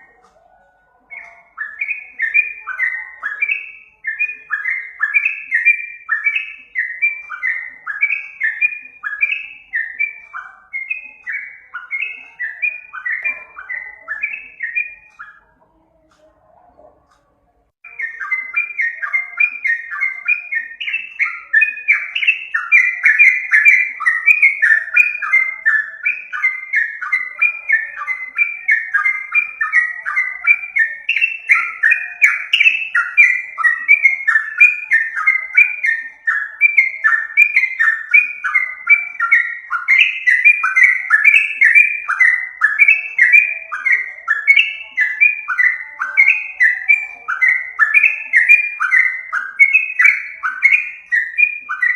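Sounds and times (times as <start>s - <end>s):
bird chattering song: 0.0s - 51.9s.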